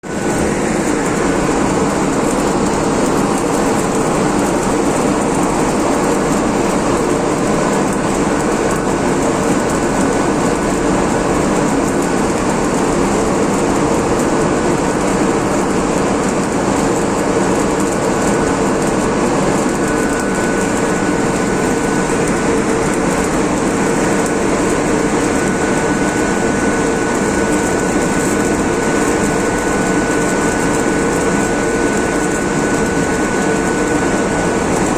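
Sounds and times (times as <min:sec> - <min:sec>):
loud machinery noise: 0:00.0 - 0:34.9.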